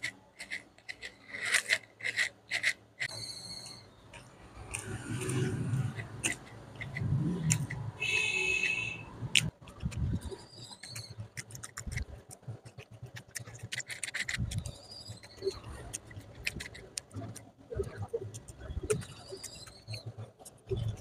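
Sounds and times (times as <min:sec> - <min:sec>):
fingers scraping a plastic plate: 0:00.0 - 0:03.2, 0:04.2 - 0:08.8, 0:09.4 - 0:21.0.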